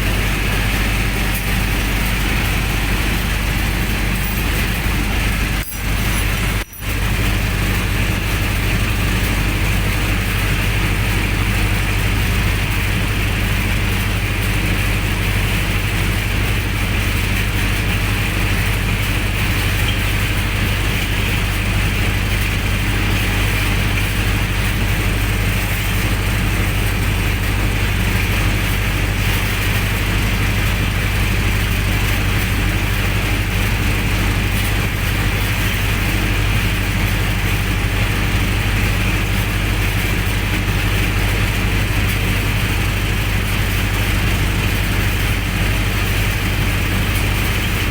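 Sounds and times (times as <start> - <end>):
generator engine running: 0.0 - 47.9.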